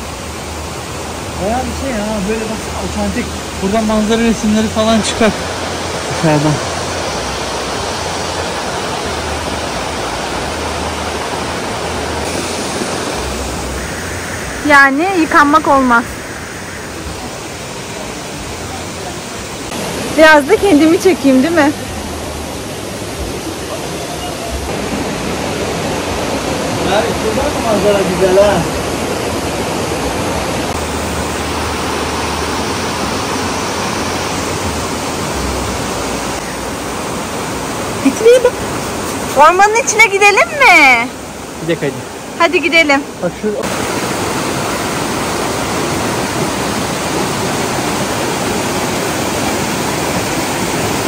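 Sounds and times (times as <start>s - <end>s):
fast-flowing stream water: 0.0s - 51.0s
river rushing over rocks: 0.0s - 51.0s.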